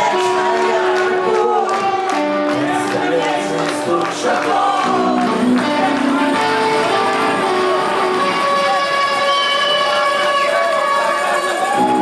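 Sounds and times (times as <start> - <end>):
person singing: 0.0 - 10.5
live rock band music: 0.0 - 12.0.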